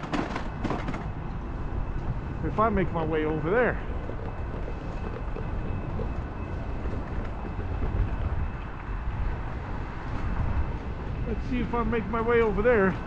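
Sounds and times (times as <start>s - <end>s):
bicycle road rumble: 0.0s - 13.0s
wind rush: 0.0s - 13.0s.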